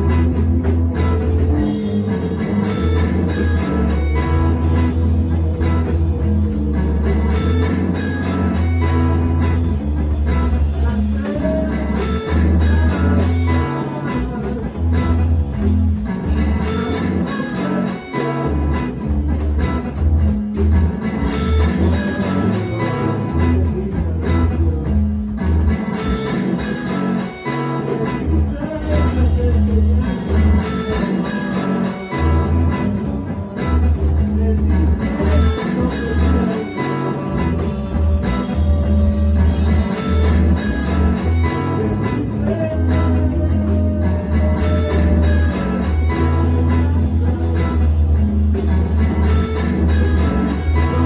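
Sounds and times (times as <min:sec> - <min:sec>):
deep bass line: 0:00.0 - 0:51.0
electric guitar: 0:00.0 - 0:51.0.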